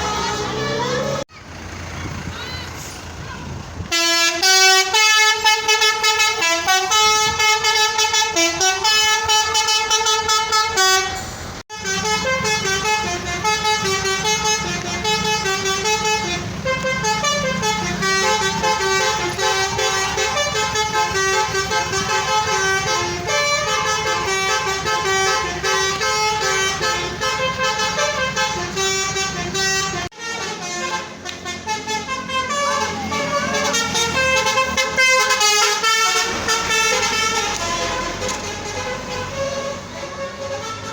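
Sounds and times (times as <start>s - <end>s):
multi-tone bus horn tune: 0.0s - 1.3s, 3.8s - 40.9s
bus engine running: 0.0s - 40.9s.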